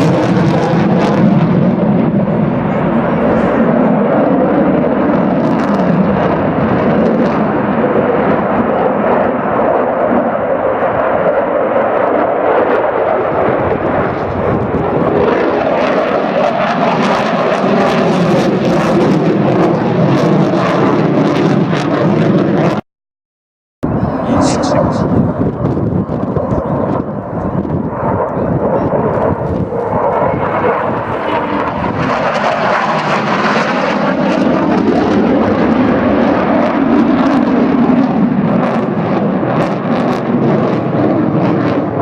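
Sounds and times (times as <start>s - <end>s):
aircraft engine flying past: 0.0s - 22.8s, 23.9s - 42.0s.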